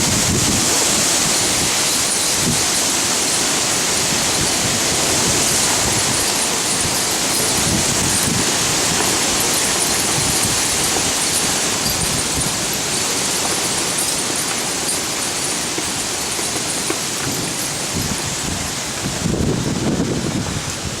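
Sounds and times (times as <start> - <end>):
falling rain: 0.0 - 21.0
wind: 0.0 - 21.0.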